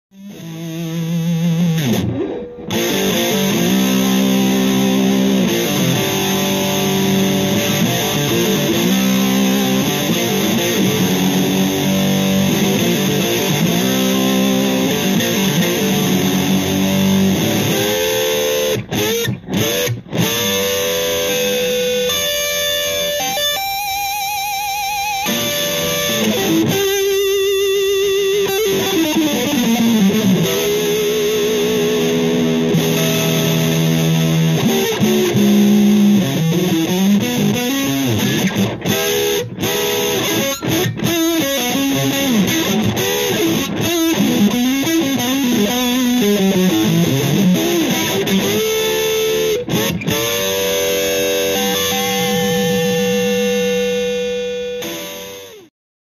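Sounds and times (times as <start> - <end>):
electric guitar lead with string bends: 0.1 - 55.7.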